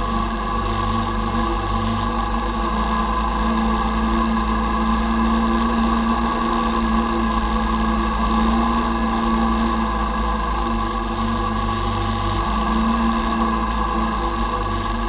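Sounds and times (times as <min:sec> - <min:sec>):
quad engine droning: 0:00.0 - 0:15.0.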